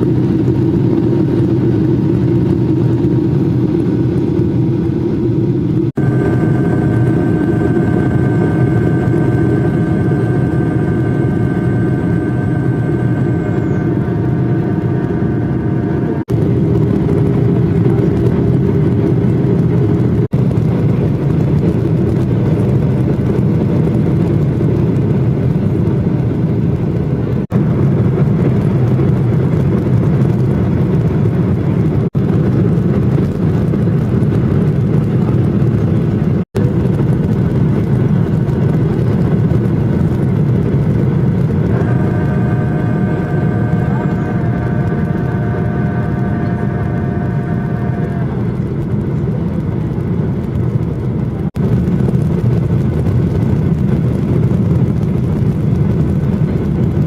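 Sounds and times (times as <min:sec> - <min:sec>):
jet engines and airflow rushing: 0:00.0 - 0:57.0
multi-tone whine: 0:00.0 - 0:57.0.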